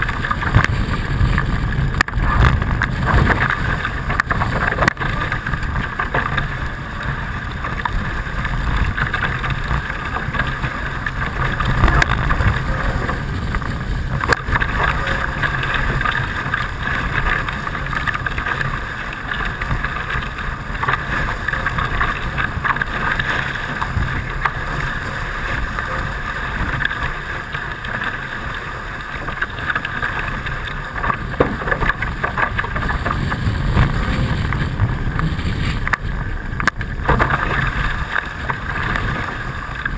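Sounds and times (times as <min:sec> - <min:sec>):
water rushing past boat: 0:00.0 - 0:39.9
wind buffeting microphone: 0:00.0 - 0:39.9.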